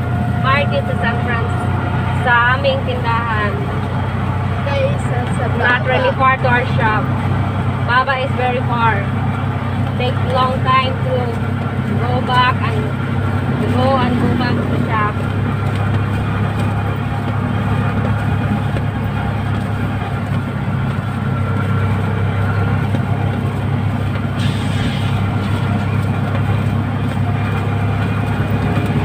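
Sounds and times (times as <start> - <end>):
car engine drone: 0.0 - 29.0
road and wind noise: 0.0 - 29.0.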